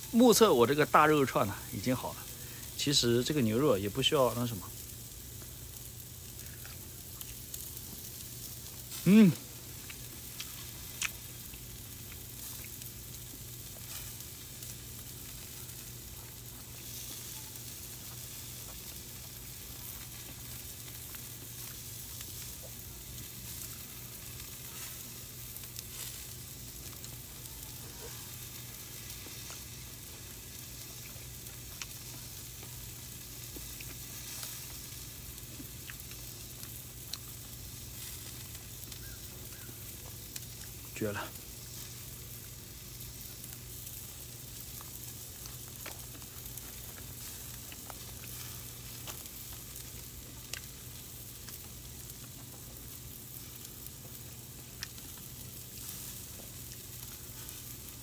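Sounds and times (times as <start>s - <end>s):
meat sizzling on a grill: 0.0s - 58.0s.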